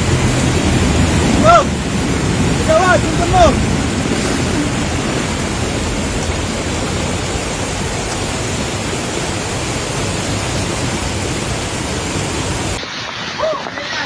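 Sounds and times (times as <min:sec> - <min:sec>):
flooded river rushing: 0:00.0 - 0:14.0.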